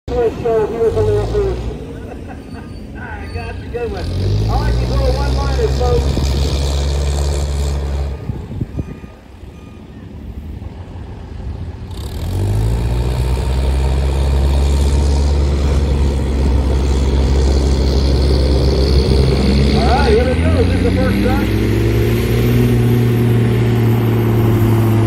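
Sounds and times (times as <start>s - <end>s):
diesel truck engine at full throttle: 0.1s - 25.0s.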